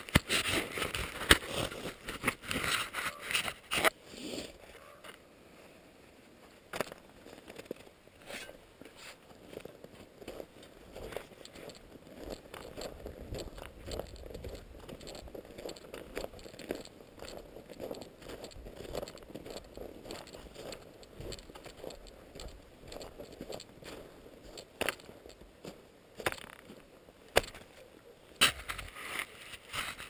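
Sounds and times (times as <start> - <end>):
footsteps crunching in snow: 0.0 - 5.8, 6.4 - 30.0.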